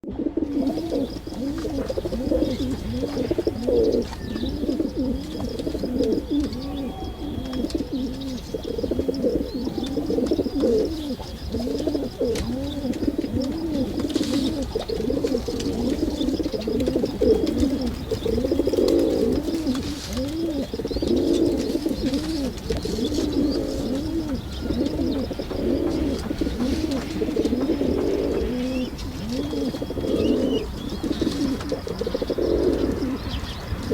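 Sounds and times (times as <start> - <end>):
pigeons cooing: 0.0 - 33.9
faint high chirping: 0.5 - 33.9.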